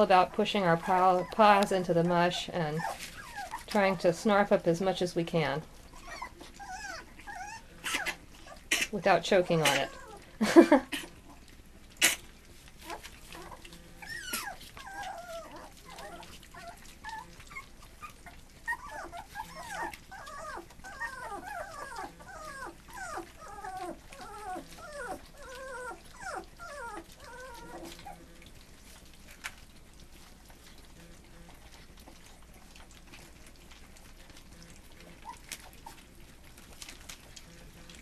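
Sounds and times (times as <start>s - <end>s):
puppies whimpering and whining: 0.0s - 38.0s.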